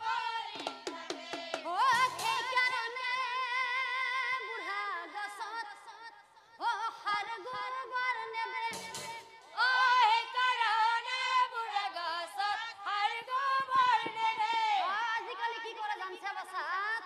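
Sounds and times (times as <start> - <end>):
woman singing devotional song: 0.0 - 17.0.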